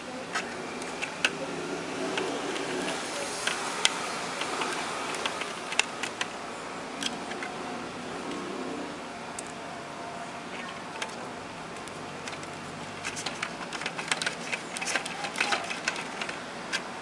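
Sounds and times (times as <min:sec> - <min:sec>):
low background murmur: 0:00.0 - 0:17.0.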